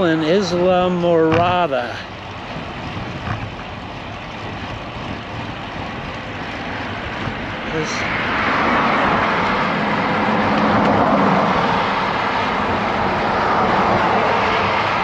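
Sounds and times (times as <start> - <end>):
vehicles passing close: 0.0 - 15.0
wind noise on microphone: 1.3 - 15.0.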